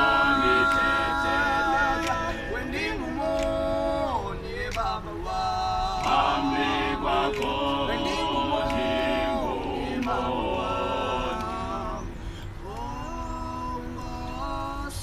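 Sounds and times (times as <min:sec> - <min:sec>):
group singing a cappella: 0:00.0 - 0:15.0.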